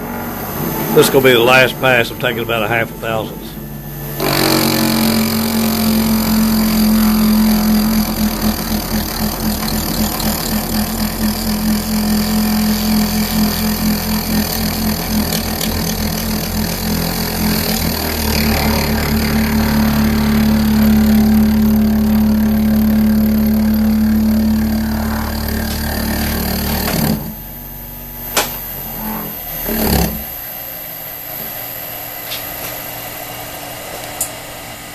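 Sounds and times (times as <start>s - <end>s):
router spindle humming: 0.0s - 34.4s.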